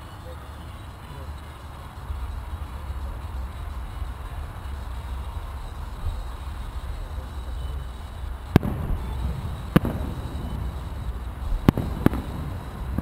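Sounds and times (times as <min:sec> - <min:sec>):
fireworks shells bursting: 0:00.0 - 0:13.0
steady low rumble: 0:00.0 - 0:13.0.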